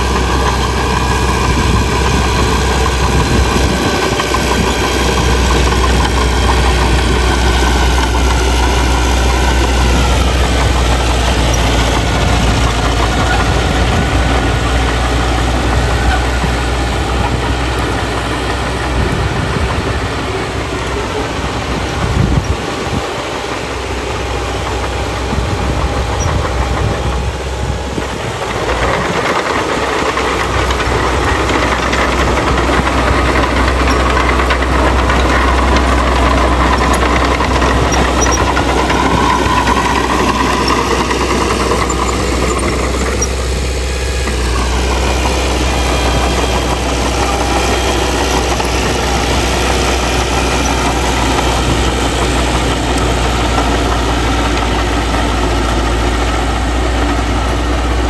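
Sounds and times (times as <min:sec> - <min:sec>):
diesel earthmoving machinery running: 0:00.0 - 0:58.0.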